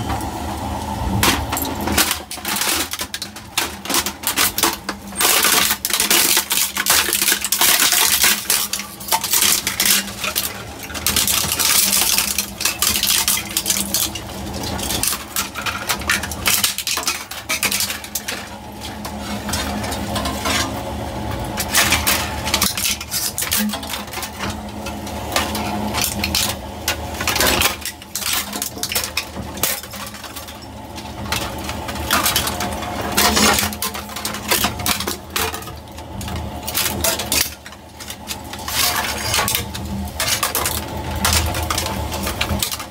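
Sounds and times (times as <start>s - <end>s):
shredder breaking pieces: 1.2s - 42.9s.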